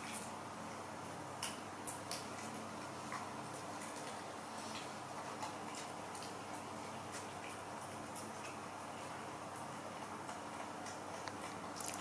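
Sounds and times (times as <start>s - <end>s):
monkeys chewing food: 1.4s - 12.0s.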